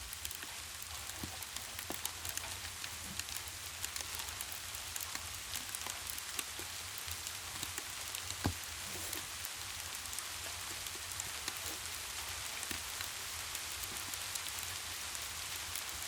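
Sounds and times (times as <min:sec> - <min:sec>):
rain drops ticking: 0:00.0 - 0:16.0.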